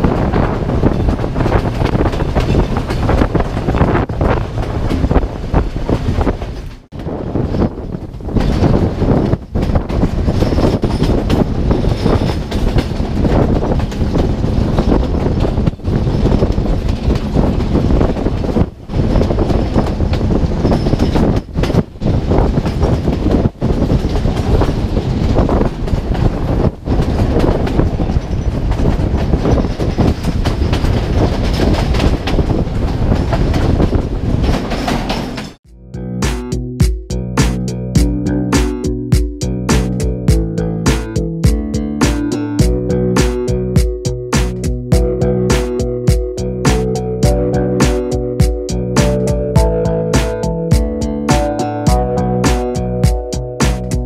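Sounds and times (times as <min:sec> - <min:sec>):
wheels clattering over rail joints: 0:00.0 - 0:35.6, 0:37.4 - 0:54.0
train rumbling: 0:00.0 - 0:54.0.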